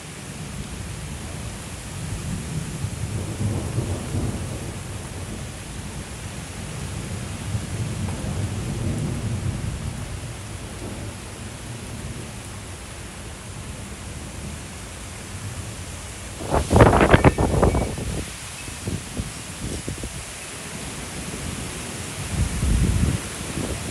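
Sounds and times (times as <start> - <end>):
heavy rain hissing: 0.0 - 23.9
thunder rumbling: 0.8 - 20.3.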